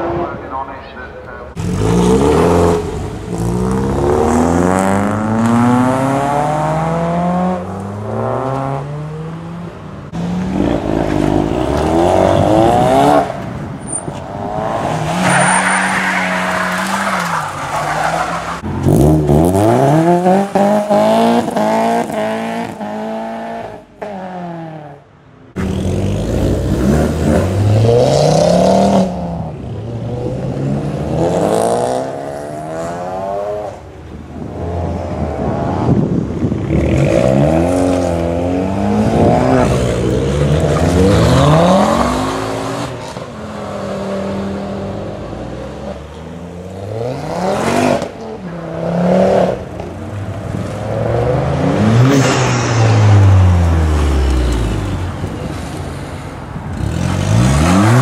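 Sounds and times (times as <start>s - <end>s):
cars accelerating hard: 1.5s - 56.0s, 56.6s - 58.0s.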